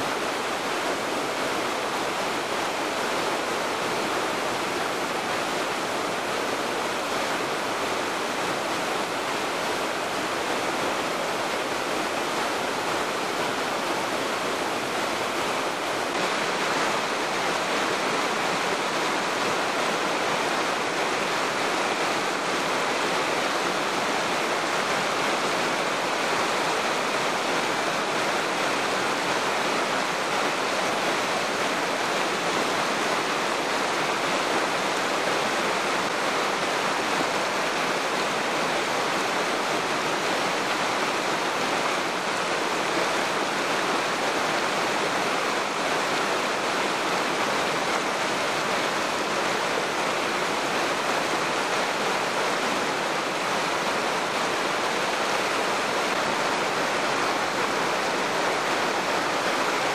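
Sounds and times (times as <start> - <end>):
rushing stream and waterfall: 0.0 - 59.9.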